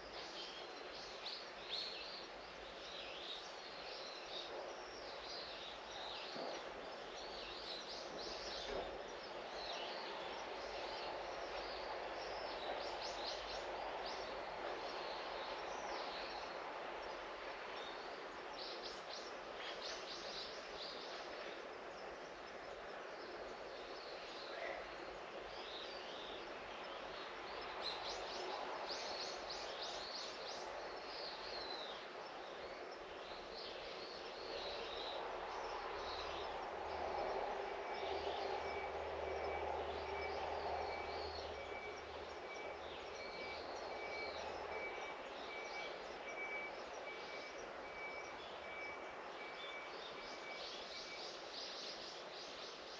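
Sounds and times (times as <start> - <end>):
outdoor background noise: 0.0 - 52.9.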